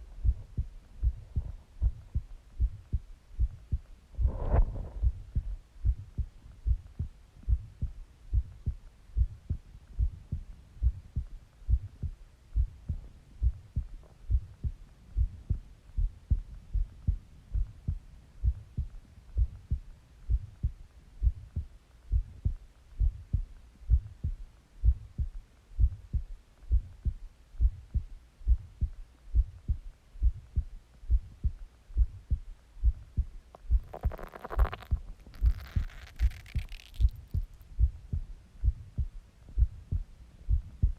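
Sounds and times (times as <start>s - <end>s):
heart beating: 0.0s - 40.9s.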